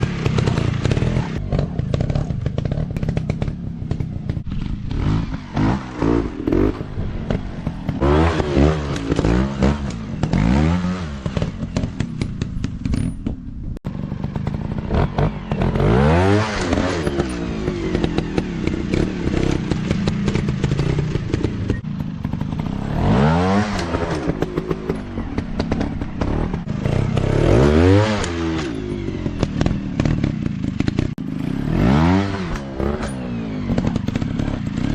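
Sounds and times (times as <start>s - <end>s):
dirt bike engines revving: 0.0s - 13.0s, 13.9s - 34.9s.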